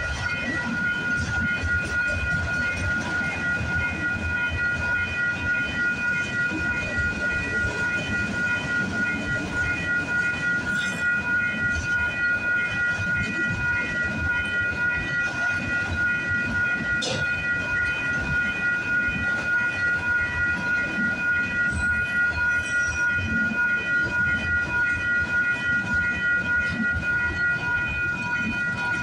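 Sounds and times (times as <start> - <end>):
crossing warning bell ringing: 0.0 - 29.0
freight train rumble: 0.0 - 29.0.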